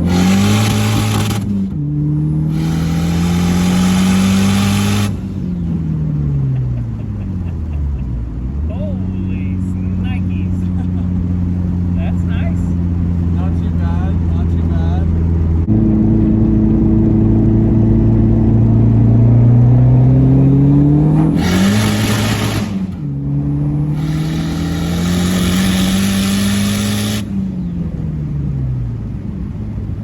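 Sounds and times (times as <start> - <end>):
turbocharged car engine accelerating: 0.0 - 30.0.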